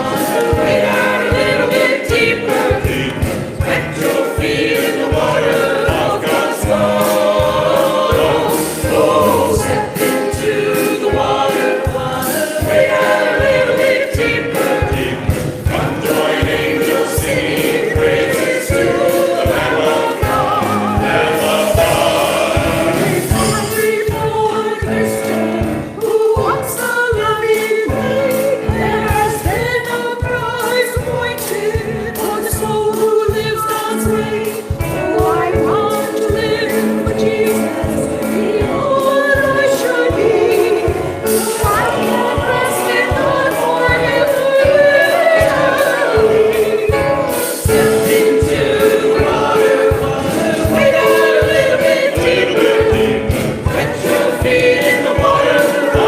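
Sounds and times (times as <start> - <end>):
choir singing gospel: 0.0 - 56.0
instrumental accompaniment with beat: 0.0 - 56.0.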